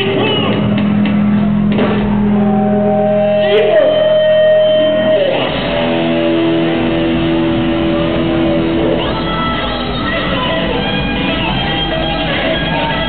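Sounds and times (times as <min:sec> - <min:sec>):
electric guitar: 0:00.0 - 0:13.0
rock band playing: 0:00.0 - 0:13.0.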